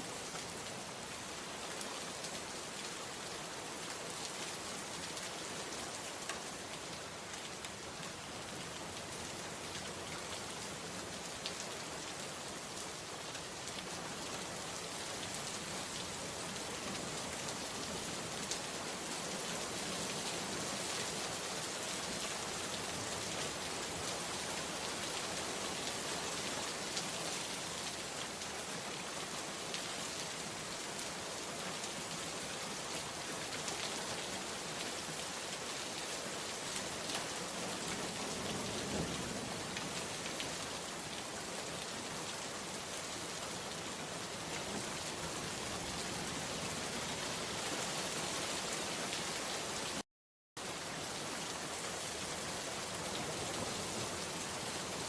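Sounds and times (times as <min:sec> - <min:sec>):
steady rain hiss: 0:00.0 - 0:50.0, 0:50.6 - 0:55.0.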